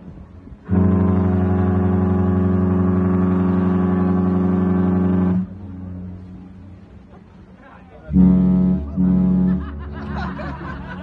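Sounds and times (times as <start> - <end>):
ship's horn blast: 0.0 - 11.0.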